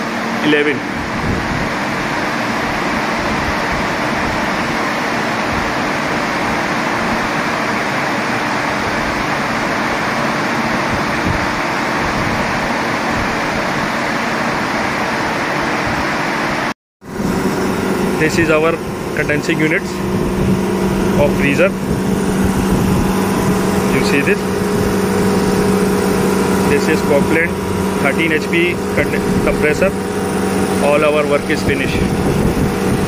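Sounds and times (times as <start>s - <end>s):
fans rushing air: 0.0s - 33.0s.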